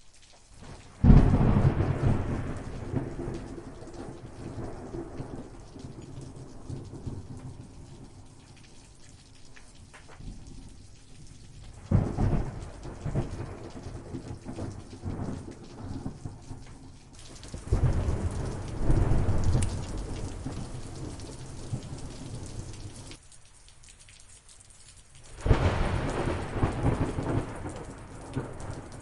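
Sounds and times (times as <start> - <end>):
steady rain falling: 0.0 - 29.0
thunder rumbling: 0.6 - 9.0, 9.7 - 23.2, 25.3 - 29.0.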